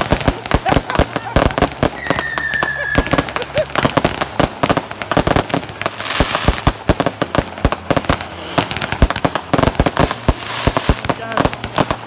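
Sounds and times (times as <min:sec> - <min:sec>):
crackling hiss: 0:00.0 - 0:12.0
fireworks bangs and crackles: 0:00.0 - 0:12.0.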